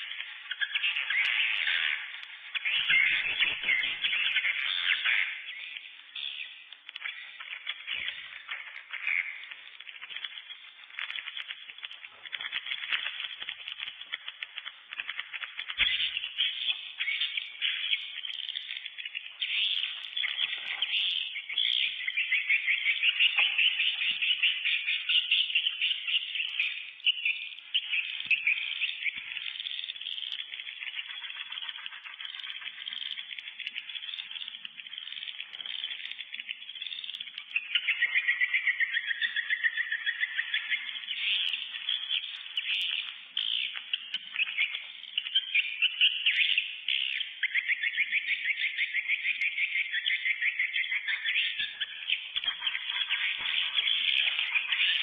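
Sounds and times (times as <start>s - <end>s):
swiftlets twittering chatter: 0.0s - 6.3s, 7.2s - 55.0s.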